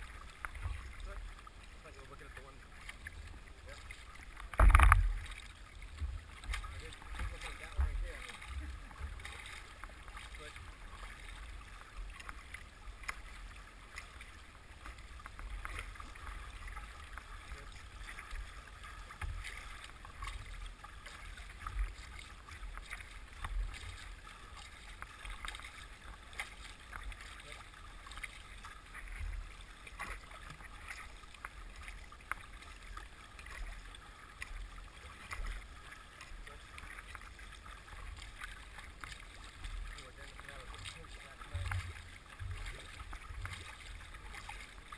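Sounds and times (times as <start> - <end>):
water splashing against boat: 0.0 - 44.9.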